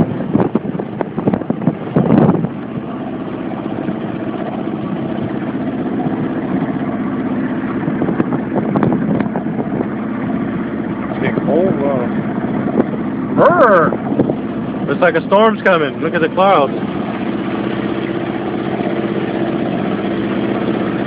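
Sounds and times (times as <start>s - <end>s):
small boat engine running: 0.0s - 21.0s.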